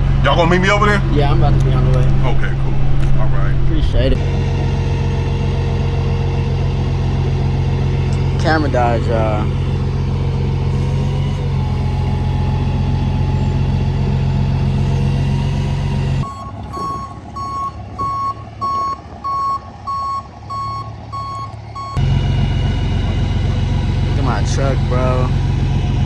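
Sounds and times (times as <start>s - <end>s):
vehicle engine running: 0.0s - 26.0s
truck reversing alarm beeping: 4.1s - 26.0s.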